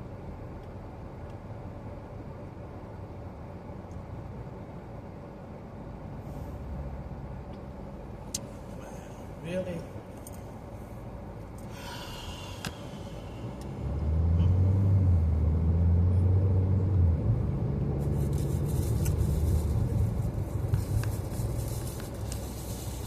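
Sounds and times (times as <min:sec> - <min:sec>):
car rumble inside cabin: 0:00.0 - 0:23.0.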